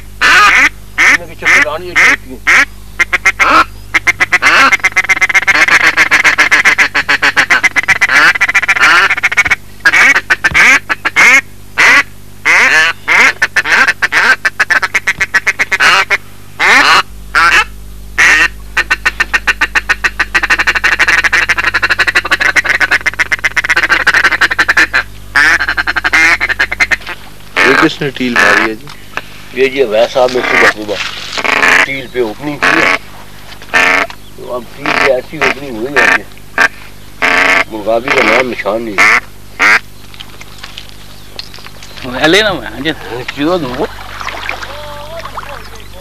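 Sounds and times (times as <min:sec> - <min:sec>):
ducks quacking: 0:00.0 - 0:39.9, 0:42.0 - 0:46.0.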